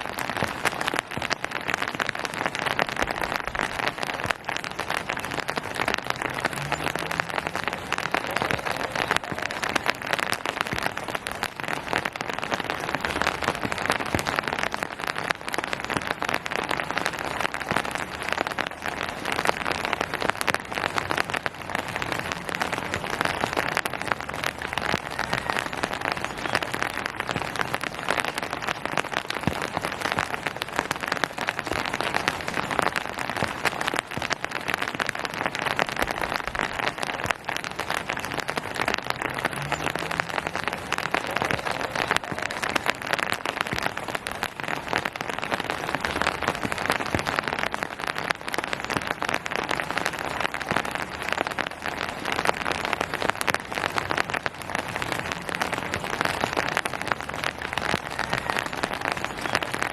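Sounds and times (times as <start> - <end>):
rain on hard surfaces and foliage: 0.0 - 59.9.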